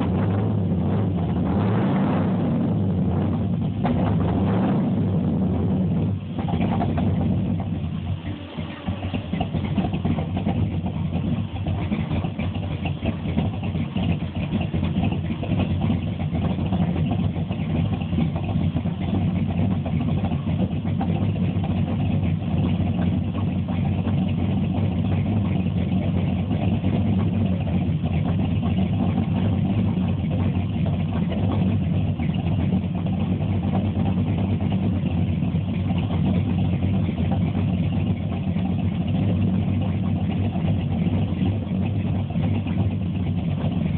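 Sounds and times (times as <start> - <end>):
car engine running steadily: 0.0 - 43.9.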